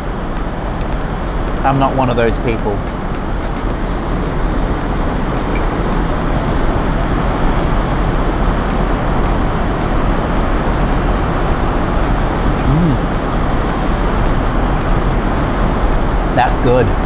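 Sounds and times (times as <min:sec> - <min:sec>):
airplane cabin roar: 0:00.0 - 0:17.0.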